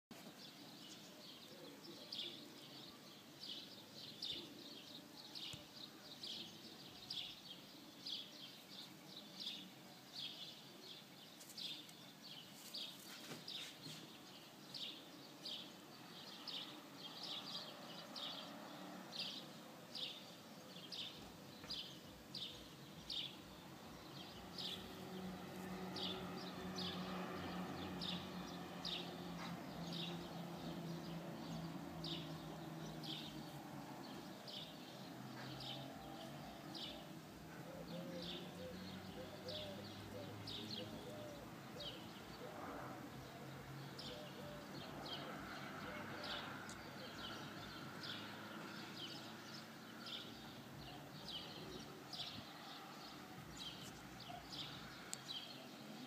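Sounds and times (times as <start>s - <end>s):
bird chirping: 0.2s - 56.0s.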